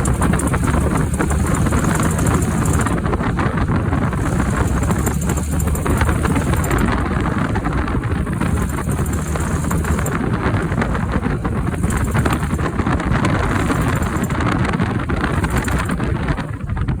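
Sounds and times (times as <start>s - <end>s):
car engine and road noise: 0.0s - 17.0s
rapid clicking: 0.0s - 17.0s.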